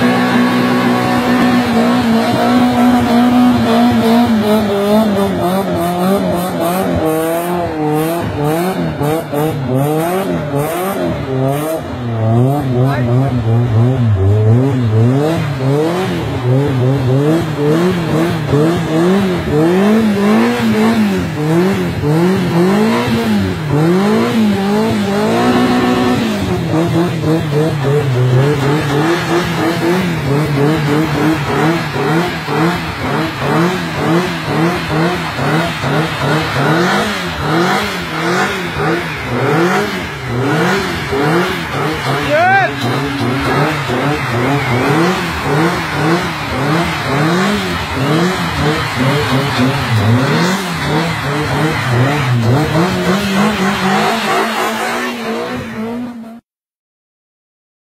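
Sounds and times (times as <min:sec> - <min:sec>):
tyres spinning on road: 0:00.0 - 0:56.3
car engine revving: 0:00.0 - 0:56.4.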